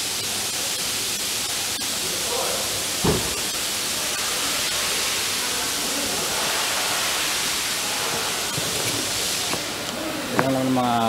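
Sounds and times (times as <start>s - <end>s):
workshop background hiss: 0.0s - 11.0s.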